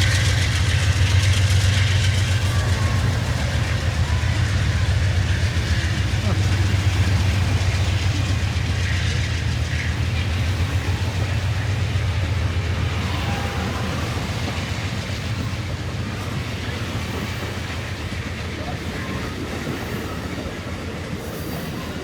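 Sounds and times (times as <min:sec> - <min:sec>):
passenger train rolling by: 0:00.0 - 0:22.0
rattle of train cars: 0:00.0 - 0:22.0.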